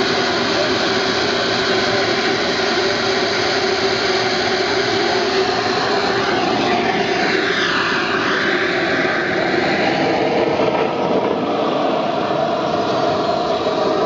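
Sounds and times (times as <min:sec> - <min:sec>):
high turbine whine: 0:00.0 - 0:14.0
model jet turbine roaring: 0:00.0 - 0:14.0.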